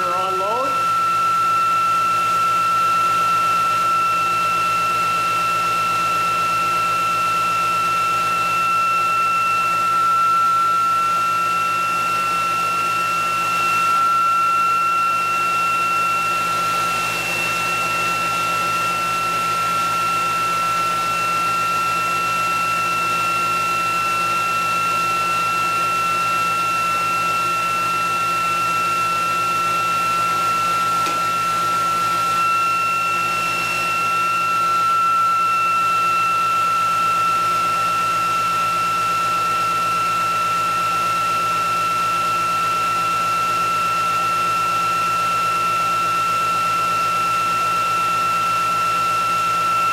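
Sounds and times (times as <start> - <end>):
motor and generator whine: 0.0 - 49.9.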